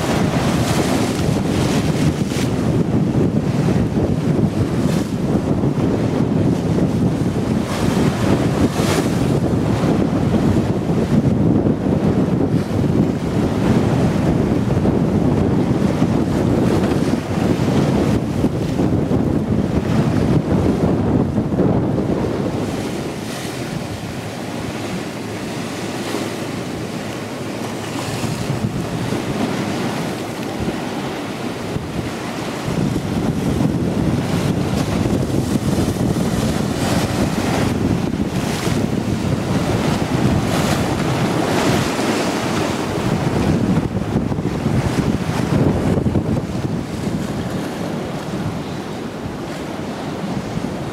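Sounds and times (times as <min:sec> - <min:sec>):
choppy water washing: 0:00.0 - 0:50.9
wind buffeting microphone: 0:00.0 - 0:50.9.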